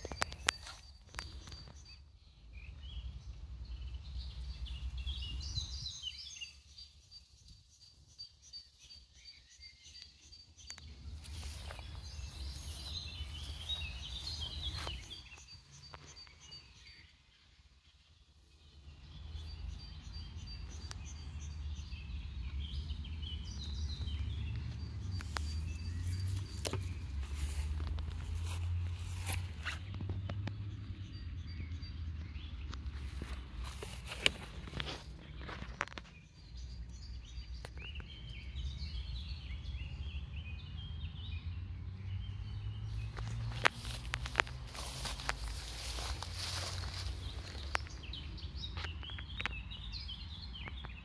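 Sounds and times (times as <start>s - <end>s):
small birds chirping and singing: 0.0s - 51.0s.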